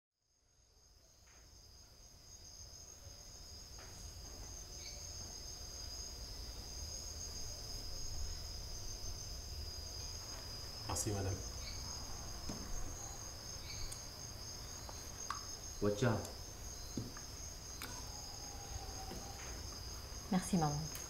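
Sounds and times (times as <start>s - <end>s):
insects trilling: 0.3s - 21.0s.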